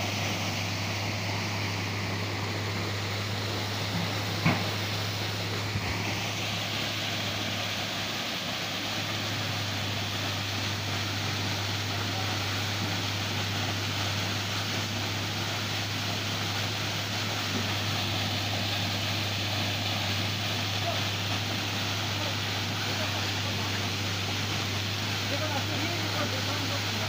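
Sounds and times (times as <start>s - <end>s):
waterfall splashing: 0.0s - 27.0s.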